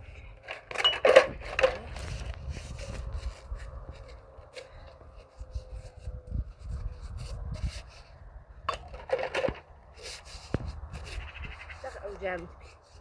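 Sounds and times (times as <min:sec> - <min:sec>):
rubbing and scraping on a surface: 0:01.5 - 0:08.2, 0:09.2 - 0:13.0.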